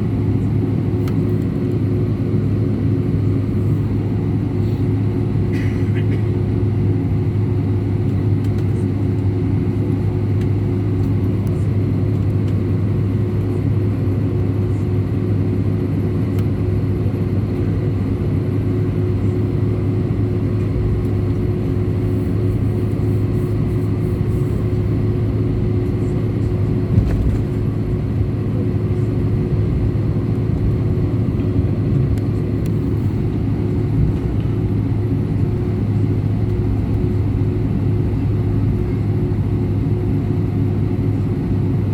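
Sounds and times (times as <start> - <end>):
airliner cabin engine drone: 0.0 - 41.9.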